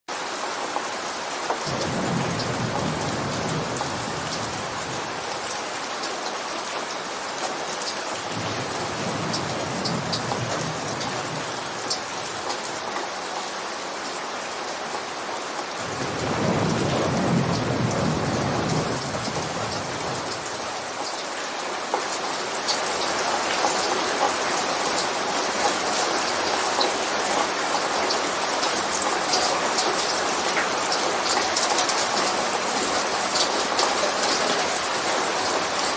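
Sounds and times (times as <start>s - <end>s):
steady rain: 0.1s - 35.9s.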